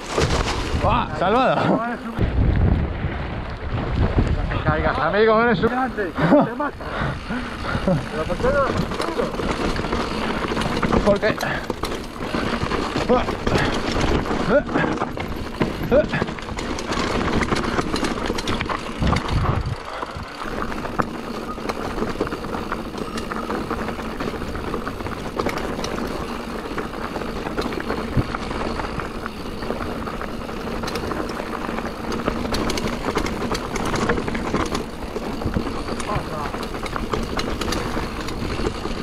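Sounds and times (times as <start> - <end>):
bike chain and frame rattling: 0.0 - 2.2, 3.6 - 39.0
bike tyres rumbling over dirt: 0.0 - 39.0.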